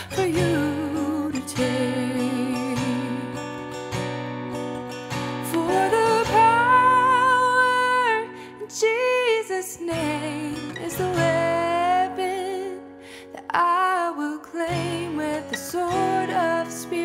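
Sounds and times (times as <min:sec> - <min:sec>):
woman singing with vibrato: 0:00.0 - 0:03.6, 0:05.4 - 0:17.0
acoustic guitar chords: 0:00.0 - 0:17.0.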